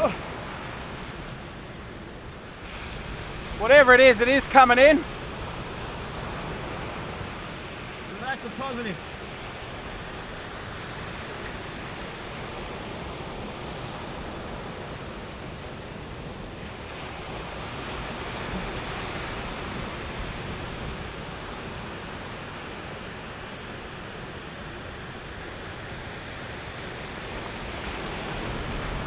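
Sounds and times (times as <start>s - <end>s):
surf breaking on beach: 0.0s - 29.0s.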